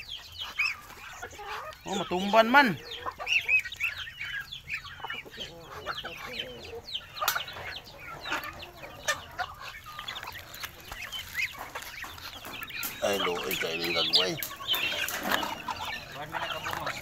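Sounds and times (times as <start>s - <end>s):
chickens clucking: 0.0s - 17.0s
chicks peeping: 0.0s - 17.0s.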